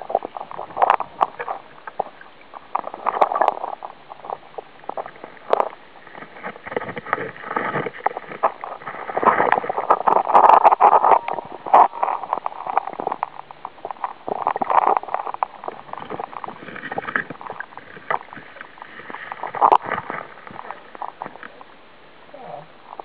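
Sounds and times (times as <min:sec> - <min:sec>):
creek water gurgling: 0:00.0 - 0:23.0
small clicks and knocks: 0:00.1 - 0:21.6.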